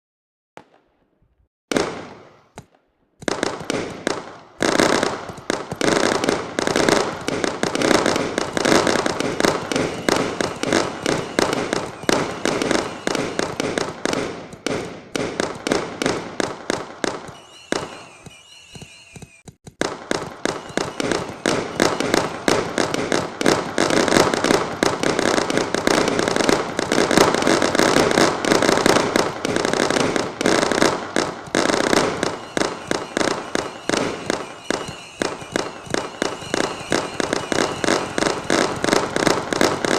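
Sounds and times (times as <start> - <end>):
fireworks and firecrackers banging: 0.6 - 39.9
firework whistling: 4.6 - 14.8, 17.0 - 39.9.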